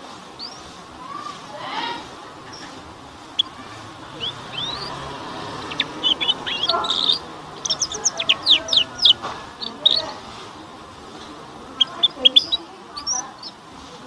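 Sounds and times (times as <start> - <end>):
canary chirping and twittering: 0.4 - 14.0.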